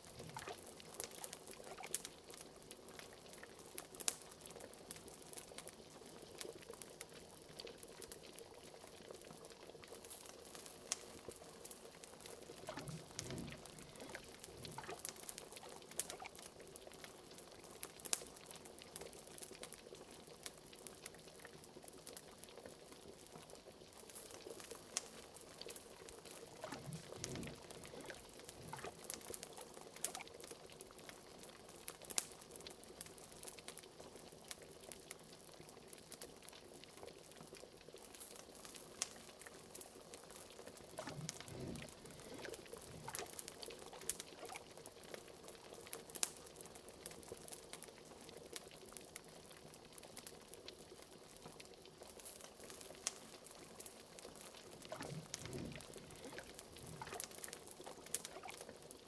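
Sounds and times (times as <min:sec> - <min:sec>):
liquid bubbling in a pot: 0:00.0 - 0:59.0
wood fire crackling: 0:00.0 - 0:59.0.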